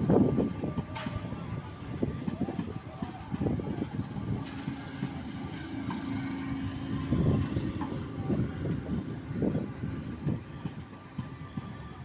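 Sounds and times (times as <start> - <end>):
train coaches rumbling: 0.0 - 12.0
wheels knocking on rails: 2.2 - 12.0.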